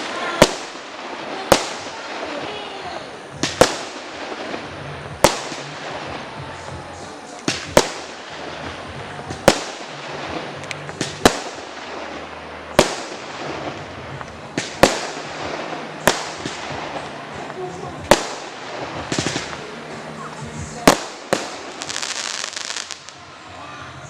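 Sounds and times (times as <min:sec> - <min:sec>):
fireworks bangs echoing: 0:00.0 - 0:23.2
fireworks crackle: 0:00.0 - 0:23.5.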